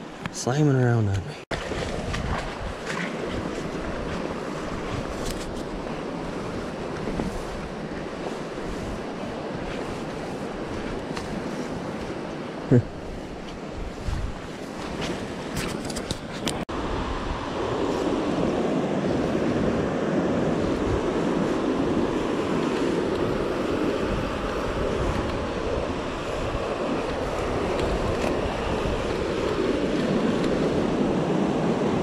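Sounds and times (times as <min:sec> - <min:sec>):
river current rushing: 0:00.0 - 0:15.7, 0:16.3 - 0:32.0
wind on microphone: 0:01.5 - 0:32.0.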